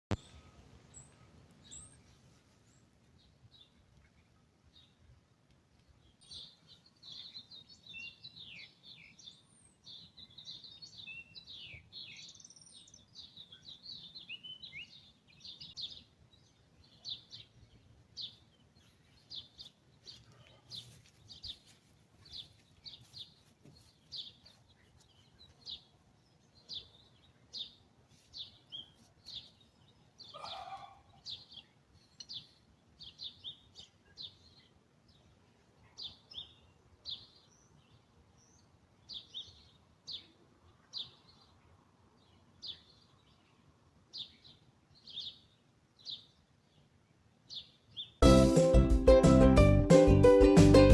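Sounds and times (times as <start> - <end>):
birds chirping and trilling: 0.1 - 5.0, 5.9 - 48.2.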